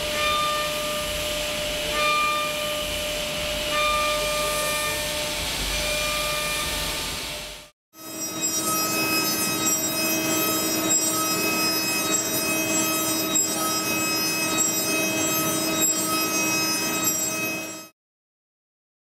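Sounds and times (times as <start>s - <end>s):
high-pitched milling machine whine: 0.0s - 18.0s.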